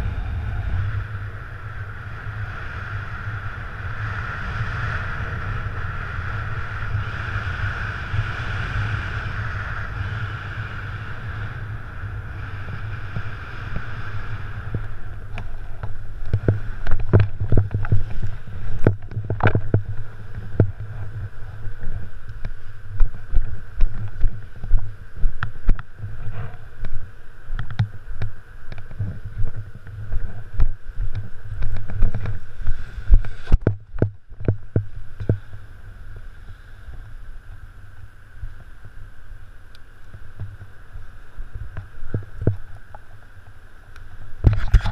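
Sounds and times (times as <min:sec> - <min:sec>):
wind buffeting microphone: 0:00.0 - 0:39.1, 0:40.1 - 0:44.9.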